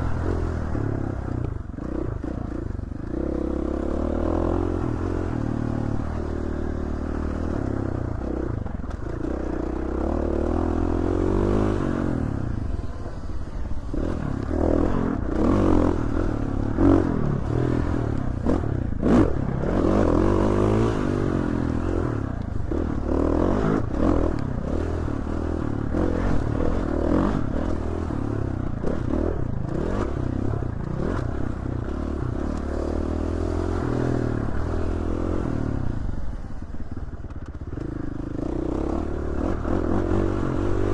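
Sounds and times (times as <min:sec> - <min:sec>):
dirt bike engine revving: 0:00.0 - 0:36.6, 0:37.7 - 0:40.9.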